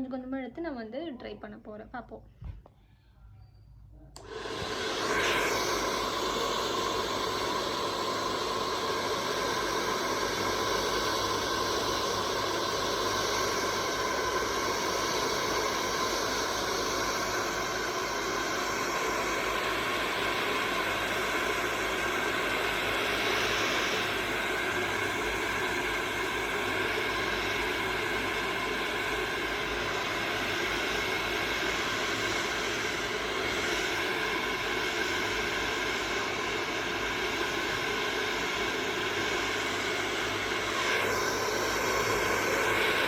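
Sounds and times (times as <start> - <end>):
hair dryer blowing: 4.2 - 43.0.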